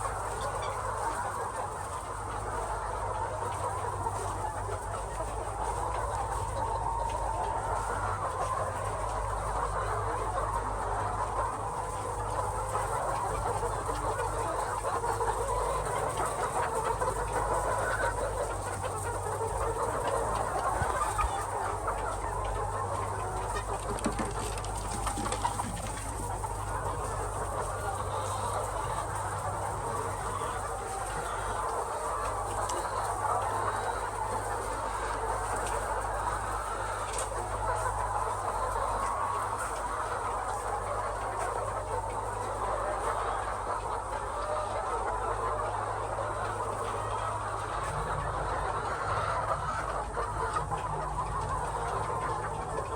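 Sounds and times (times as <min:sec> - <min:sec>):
hens clucking: 0:00.0 - 0:52.9.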